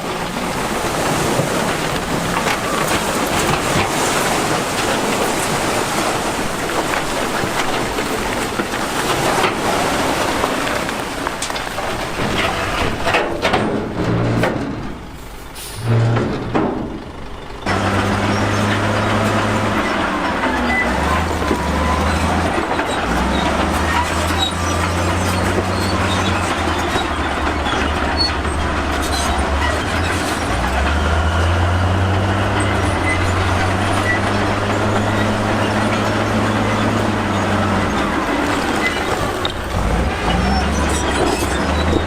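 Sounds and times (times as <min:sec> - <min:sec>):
bulldozer diesel engine under load: 0:00.0 - 0:42.0
steel tracks clattering and squealing: 0:00.0 - 0:42.0.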